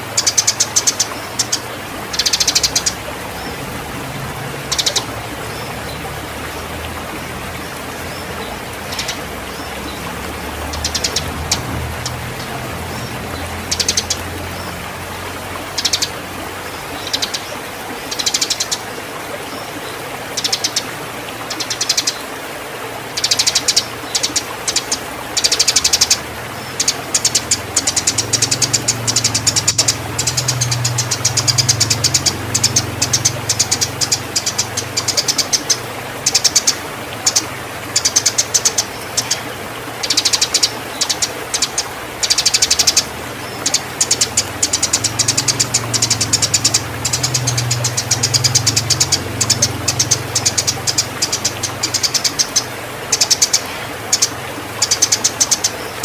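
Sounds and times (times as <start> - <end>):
sparrows chirping: 0.0 - 18.9, 19.5 - 20.9, 21.5 - 22.2, 23.2 - 56.0.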